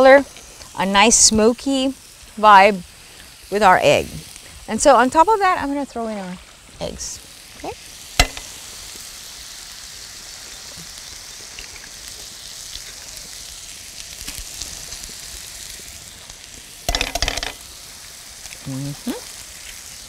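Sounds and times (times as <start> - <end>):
eggs crackling in pan: 0.0 - 20.0
food sizzling in frying pan: 0.0 - 20.0.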